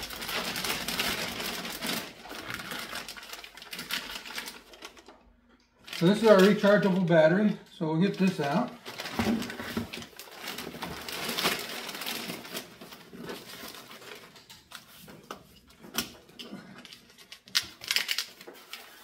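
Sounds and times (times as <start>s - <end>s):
plastic bag crinkling: 0.0s - 5.2s, 5.8s - 7.4s, 8.0s - 15.6s, 16.4s - 19.0s.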